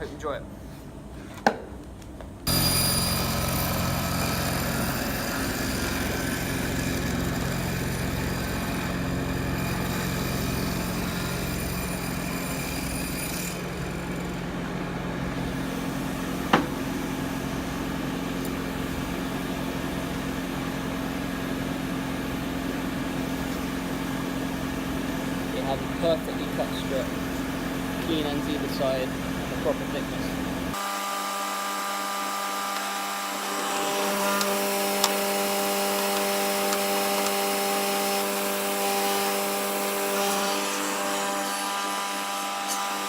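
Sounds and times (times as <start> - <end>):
table saw running: 2.5 - 43.0.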